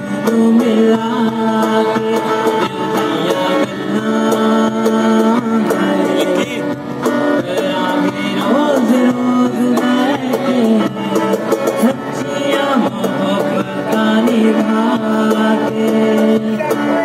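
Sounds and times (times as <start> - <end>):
person singing: 0.0 - 17.0
strummed acoustic guitar: 0.0 - 17.0.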